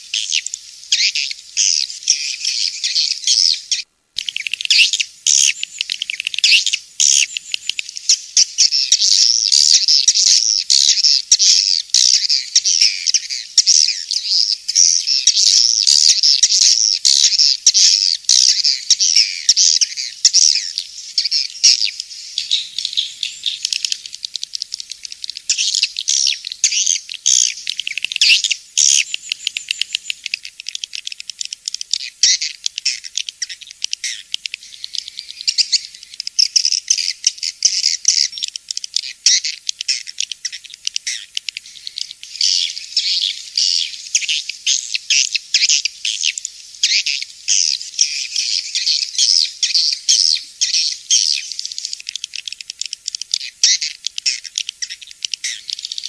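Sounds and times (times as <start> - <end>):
birds twittering chatter: 0.0 - 56.0.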